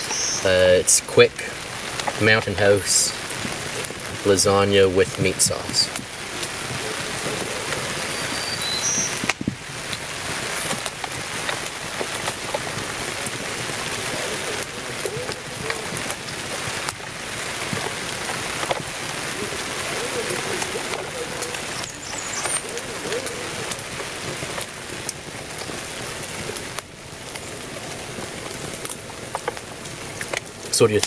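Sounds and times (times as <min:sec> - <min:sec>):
rain on a tarp: 0:00.0 - 0:31.0.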